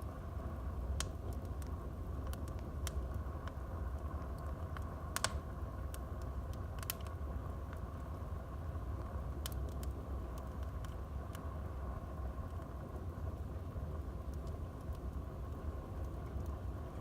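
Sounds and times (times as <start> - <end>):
fire rumbling and hissing: 0.0 - 17.0
wood fire crackling and popping: 0.0 - 17.0.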